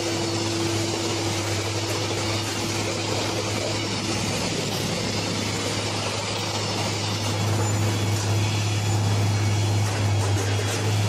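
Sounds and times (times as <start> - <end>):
machine engine humming: 0.0 - 11.0.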